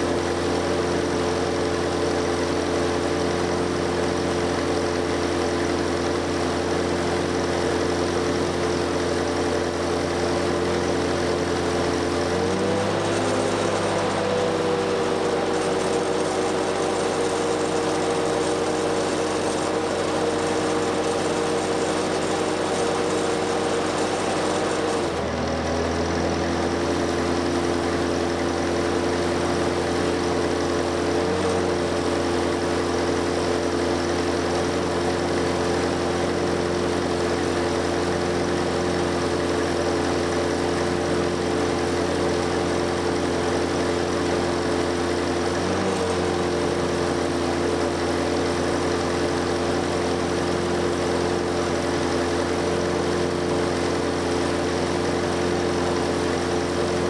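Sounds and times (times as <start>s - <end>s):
engine-driven welder running: 0.0s - 57.0s.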